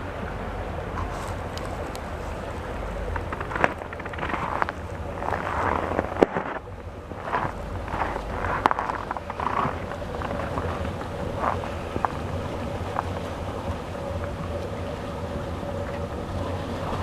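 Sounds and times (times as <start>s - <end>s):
wind rumbling on microphone: 0.0s - 17.0s
waterfall rushing: 0.8s - 17.0s.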